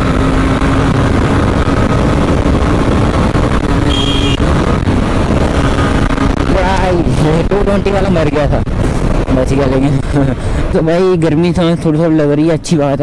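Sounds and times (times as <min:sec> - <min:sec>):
motorcycle engine drone: 0:00.0 - 0:10.8
wind buffeting microphone: 0:00.0 - 0:10.8.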